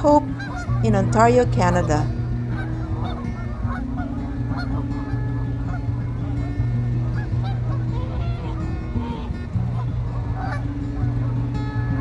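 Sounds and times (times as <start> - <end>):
geese honking: 0.0 - 12.0
low hum: 0.0 - 12.0.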